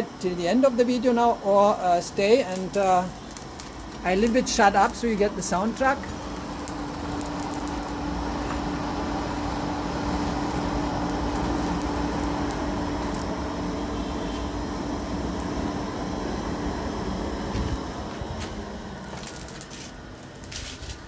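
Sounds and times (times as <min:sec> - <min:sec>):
electric blower humming: 0:00.0 - 0:21.0
fire crackles: 0:00.0 - 0:21.0
forge fire rushing: 0:01.7 - 0:21.0.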